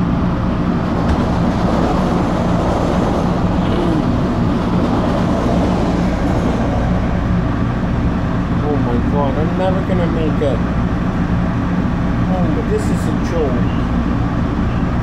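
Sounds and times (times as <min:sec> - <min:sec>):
subway car low hum: 0:00.0 - 0:15.0
wheel and track rumbling: 0:00.0 - 0:15.0.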